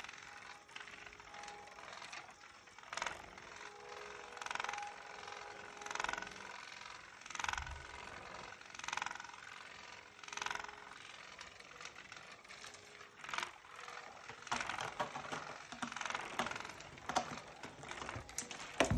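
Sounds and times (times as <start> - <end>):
cat toy motor whirring: 0.0 - 18.9.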